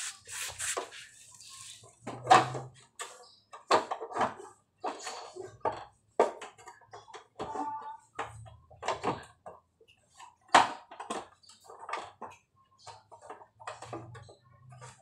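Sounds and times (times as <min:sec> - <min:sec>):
objects knocking and clattering: 0:01.8 - 0:15.0.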